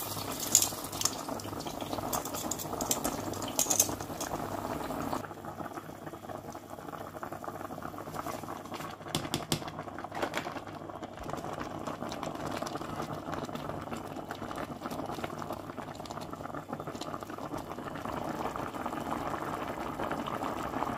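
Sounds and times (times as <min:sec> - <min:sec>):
soup bubbling at a rolling boil: 0:00.0 - 0:20.9.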